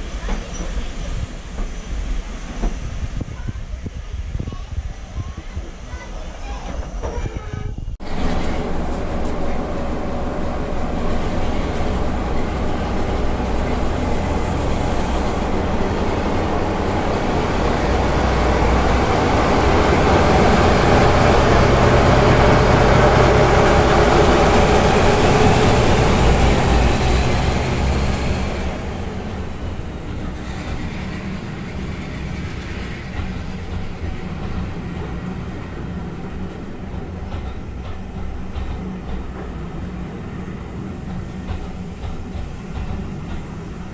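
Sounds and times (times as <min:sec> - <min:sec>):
train passing close by: 0:00.0 - 0:43.9.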